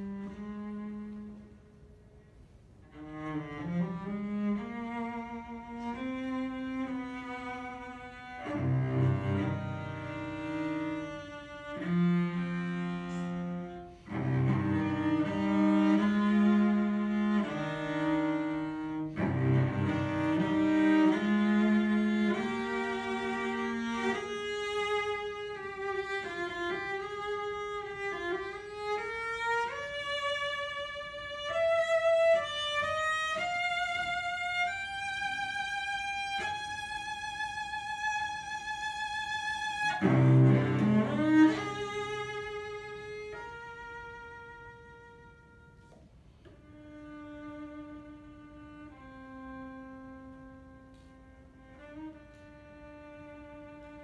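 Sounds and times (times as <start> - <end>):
solo cello melody: 0.0 - 54.0.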